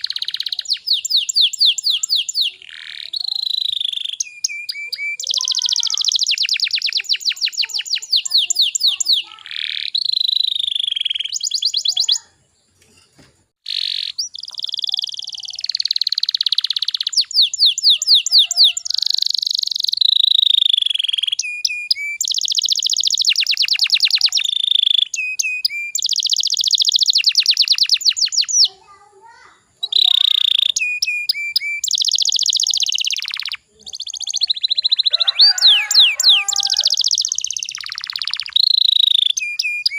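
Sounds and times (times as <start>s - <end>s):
canary singing trills: 0.0s - 12.8s, 13.6s - 39.9s.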